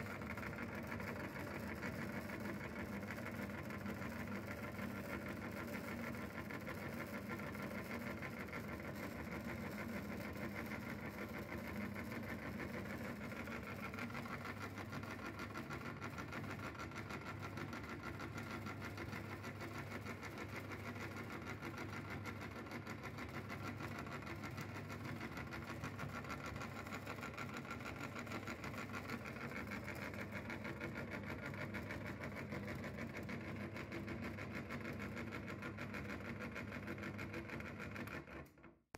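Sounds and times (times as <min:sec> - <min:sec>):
meat grinder humming and rattling: 0:00.0 - 0:38.8.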